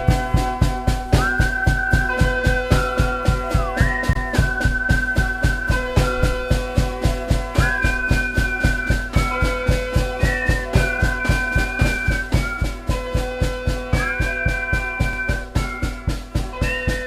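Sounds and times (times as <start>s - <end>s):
fast drum beat: 0.0s - 17.0s
held melody notes: 0.0s - 17.0s.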